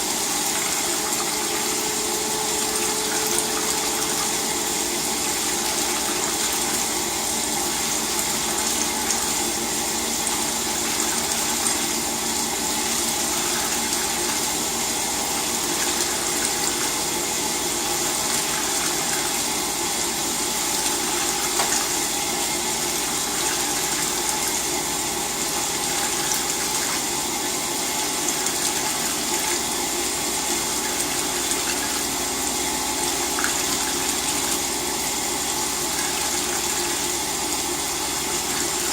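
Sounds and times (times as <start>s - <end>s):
washing machine water rushing: 0.0s - 38.9s.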